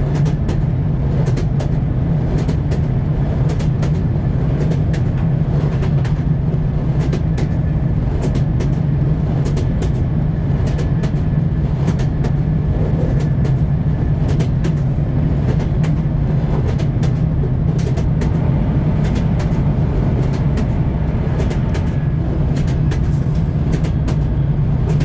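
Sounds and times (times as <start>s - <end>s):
train wheels clacking over rail joints: 0.0s - 25.0s.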